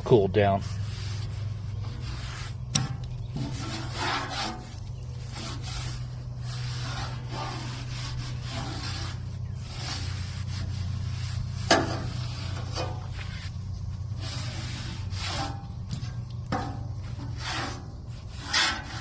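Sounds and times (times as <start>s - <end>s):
scraper rasping on griddle: 0.0s - 19.0s
steady low hum: 0.0s - 19.0s.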